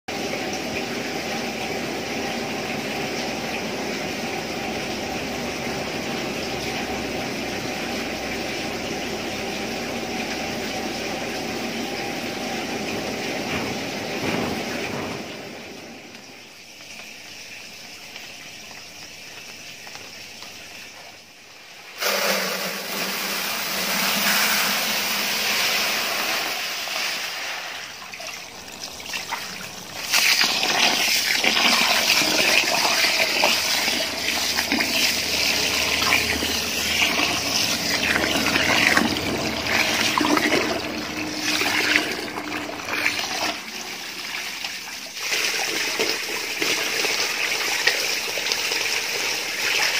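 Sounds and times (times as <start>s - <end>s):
hose water splashing into tub: 0.1s - 49.9s.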